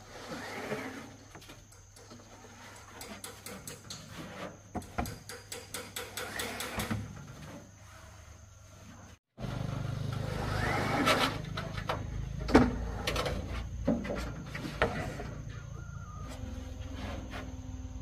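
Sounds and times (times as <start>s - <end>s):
roofing sheets knocking and scraping: 0.1s - 7.9s, 10.2s - 17.5s.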